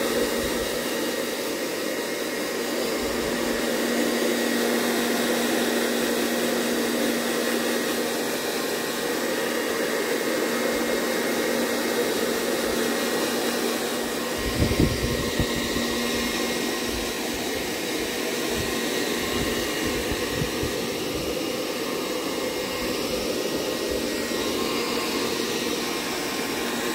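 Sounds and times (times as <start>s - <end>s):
hair dryer blowing: 0.0s - 26.9s.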